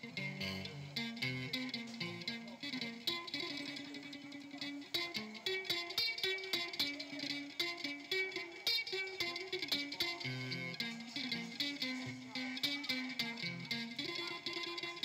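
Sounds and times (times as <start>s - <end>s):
plucked guitar background music: 0.0s - 15.0s.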